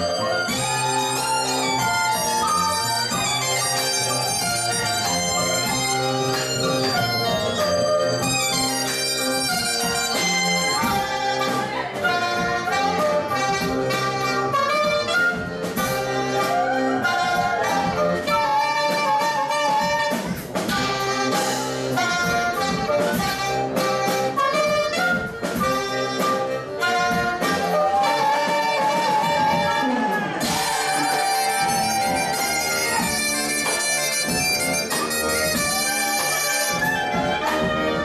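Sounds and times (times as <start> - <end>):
wind instruments folk dance melody: 0.0 - 38.0.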